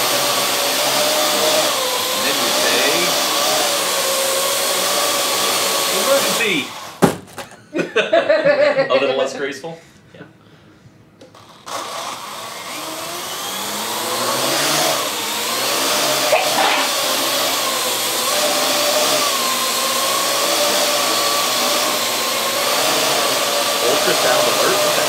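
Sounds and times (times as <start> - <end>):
quadcopter propellers whirring: 0.0 - 7.0, 11.7 - 25.0.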